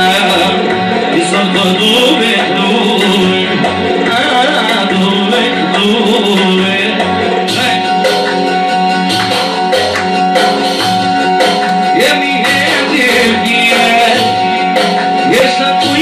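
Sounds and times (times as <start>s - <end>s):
ornamented melodic line: 0.0s - 16.0s
sharp percussion strikes: 0.0s - 16.0s
steady drum beat: 0.0s - 16.0s.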